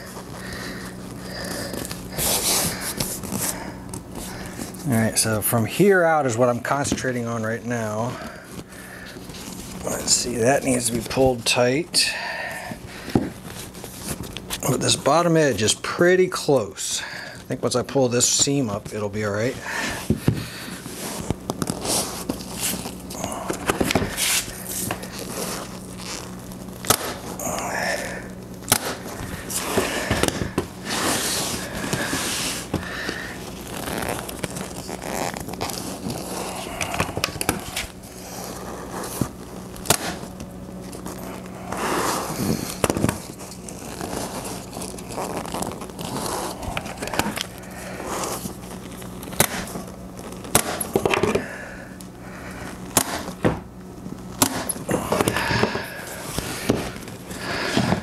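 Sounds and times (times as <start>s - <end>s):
vinyl rustling and crinkling: 0.0s - 58.0s.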